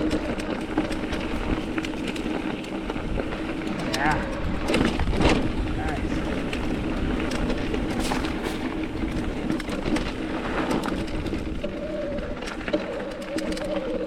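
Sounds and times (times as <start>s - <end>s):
bike tyres crunching on gravel: 0.0s - 14.0s
clicks and rattles: 0.0s - 14.0s
wind rumble on microphone: 0.0s - 14.0s.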